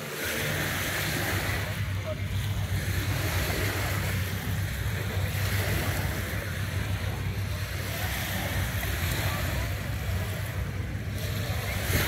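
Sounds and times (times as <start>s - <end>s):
lake waves washing at shore: 0.0s - 12.0s
wind rumbling on microphone: 0.0s - 12.0s.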